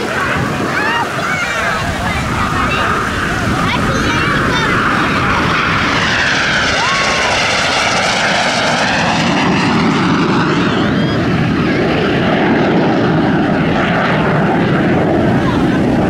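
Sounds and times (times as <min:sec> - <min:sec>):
jet flying past: 0:00.0 - 0:16.0.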